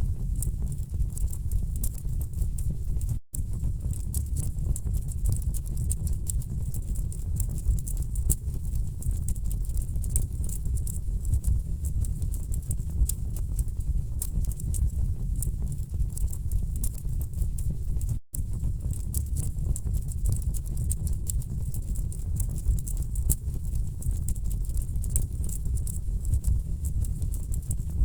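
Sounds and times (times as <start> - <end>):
low rumble of flame: 0.0 - 28.0.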